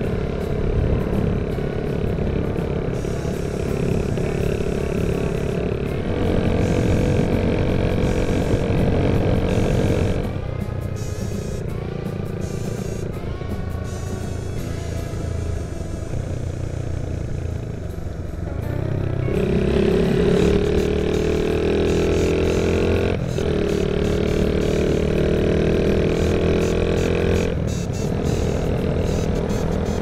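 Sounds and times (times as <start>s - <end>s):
motorcycle engine under throttle: 0.0s - 30.0s.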